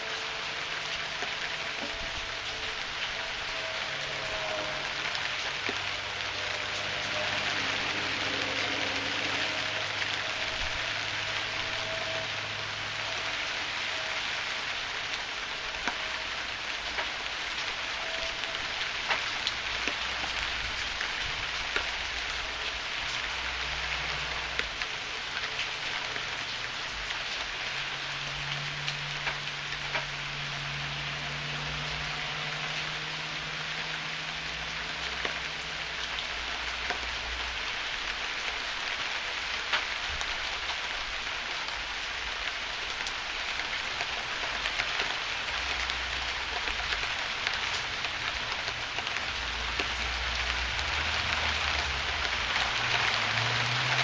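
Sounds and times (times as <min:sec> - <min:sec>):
heavy rain falling: 0:00.0 - 0:54.0
raindrops ticking: 0:00.0 - 0:54.0.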